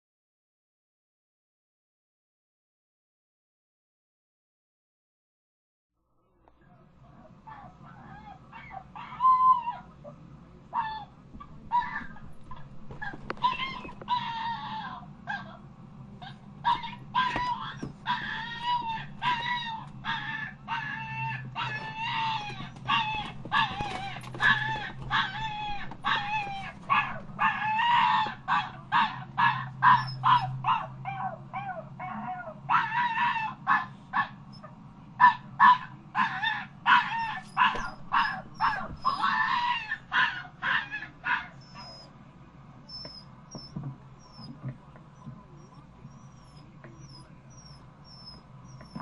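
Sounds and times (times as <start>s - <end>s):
dog whining: 7.5s - 42.1s, 42.9s - 49.0s.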